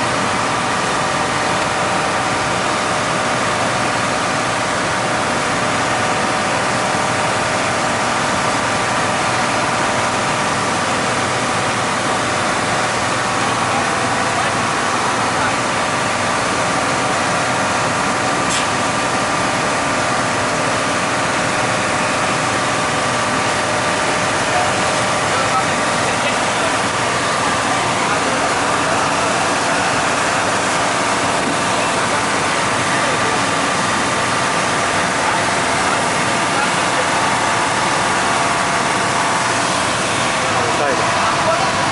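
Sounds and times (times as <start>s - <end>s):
boat engine drone: 0.0s - 41.9s
water churning along hull: 0.0s - 41.9s.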